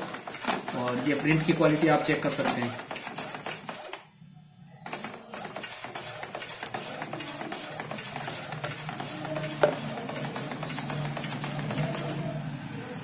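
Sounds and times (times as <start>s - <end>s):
printer carriage clattering: 0.0s - 4.0s, 4.9s - 12.2s
sharp printer click: 0.0s - 4.1s, 4.8s - 12.2s.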